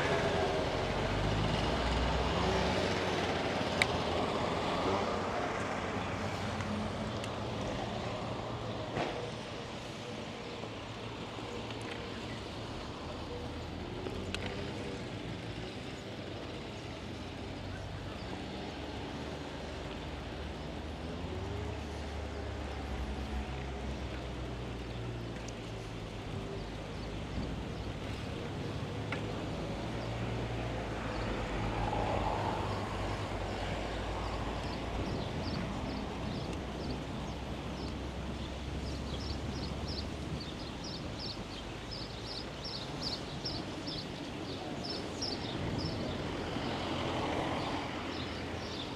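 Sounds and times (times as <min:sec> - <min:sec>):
bicycle road noise rumble: 0:00.0 - 0:48.9.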